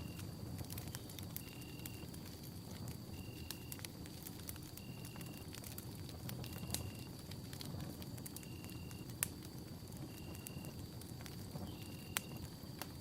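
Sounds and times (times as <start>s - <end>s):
fire crackles and pops: 0.0s - 13.0s
rush of flame: 0.0s - 13.0s.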